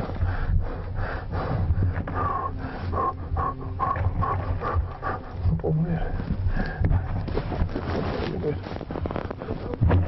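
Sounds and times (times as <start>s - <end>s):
man breathing hard and fast: 0.0s - 8.1s.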